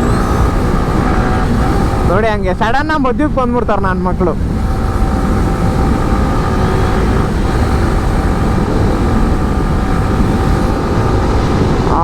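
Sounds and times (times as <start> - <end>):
motorcycle engine droning: 0.0 - 12.0
wind rushing on microphone: 0.0 - 12.0.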